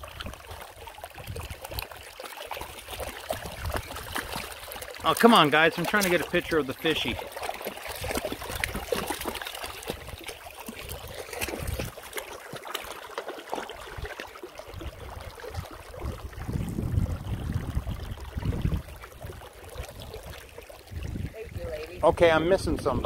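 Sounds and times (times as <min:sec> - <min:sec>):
river water splashing over rocks: 0:00.0 - 0:22.0.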